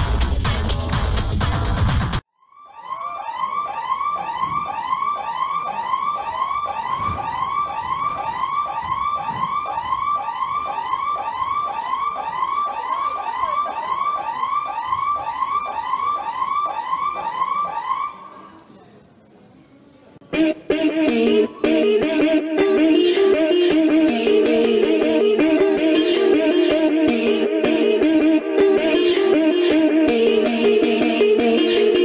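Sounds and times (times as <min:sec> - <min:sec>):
siren-like electronic wailing tone: 0:02.4 - 0:18.4, 0:20.3 - 0:32.0.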